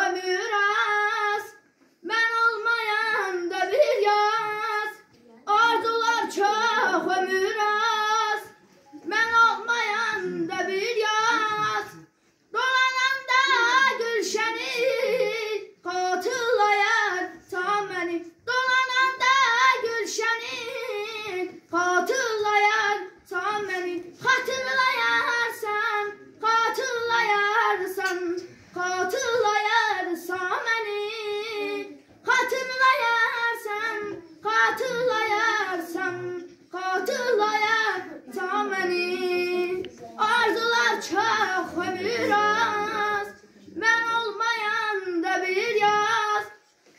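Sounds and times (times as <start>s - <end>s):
boy singing solo: 0.0s - 46.6s.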